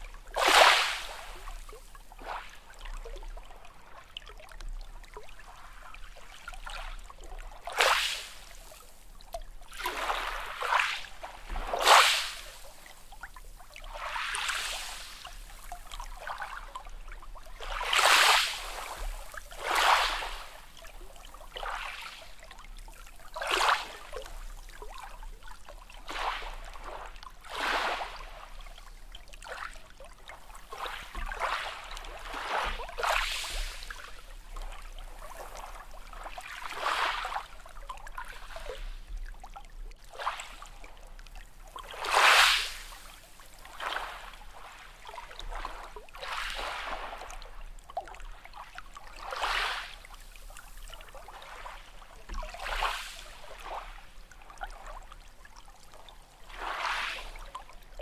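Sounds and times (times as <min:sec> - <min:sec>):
small sea waves splashing: 0:00.0 - 0:58.0.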